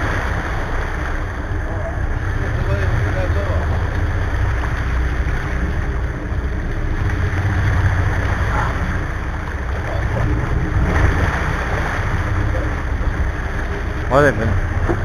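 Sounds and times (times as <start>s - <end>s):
boat engines rumbling: 0.0s - 15.0s
water rushing along hull: 0.0s - 15.0s.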